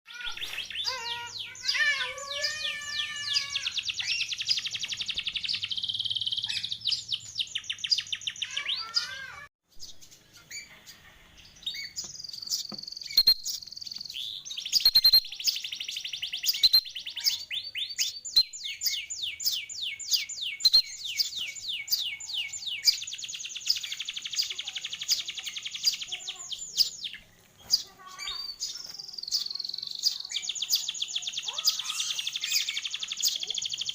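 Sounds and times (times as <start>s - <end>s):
canary singing trills: 0.1s - 33.9s.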